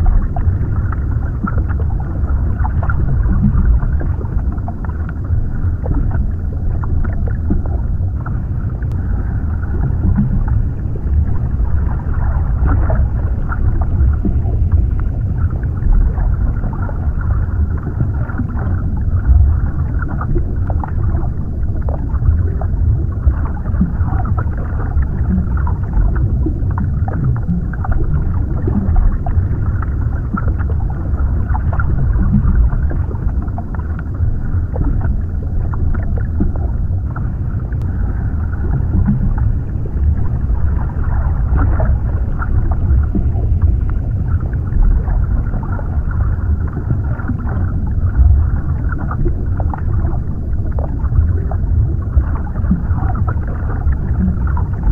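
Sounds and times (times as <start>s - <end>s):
muffled underwater rumble: 0.0s - 54.9s.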